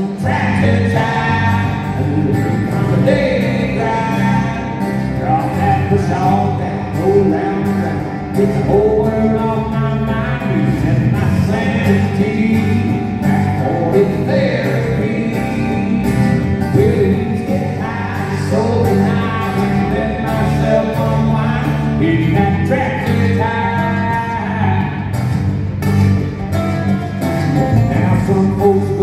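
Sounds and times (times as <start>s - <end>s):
man singing: 0.0s - 25.2s, 27.6s - 29.0s
acoustic country band playing: 0.0s - 29.0s.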